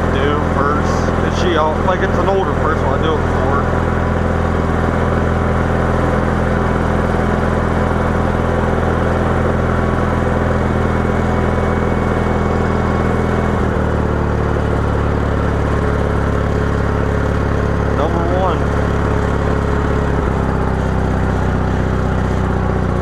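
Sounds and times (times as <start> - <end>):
garden tractor engine running: 0.0 - 23.0.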